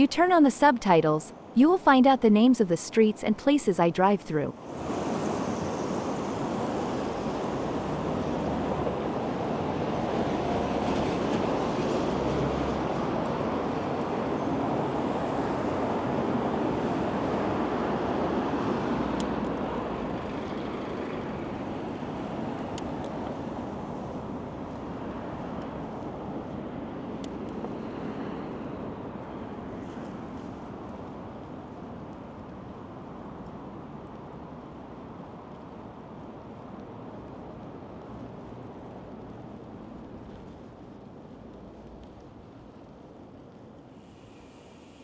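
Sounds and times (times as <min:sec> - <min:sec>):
city traffic: 0:00.0 - 0:43.2.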